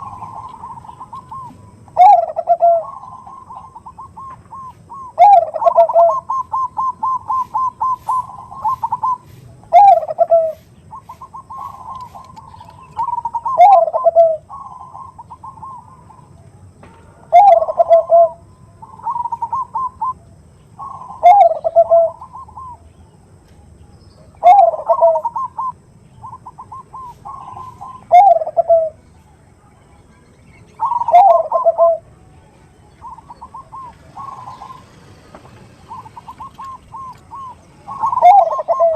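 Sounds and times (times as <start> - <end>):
dove cooing: 0.0 - 22.9, 24.2 - 29.7, 30.5 - 38.9.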